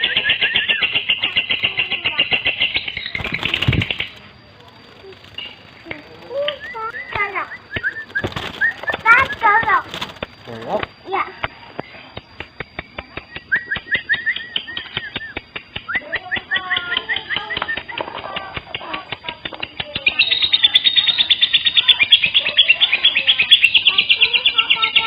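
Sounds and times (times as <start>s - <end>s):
lovebird chirping: 0.0s - 25.0s.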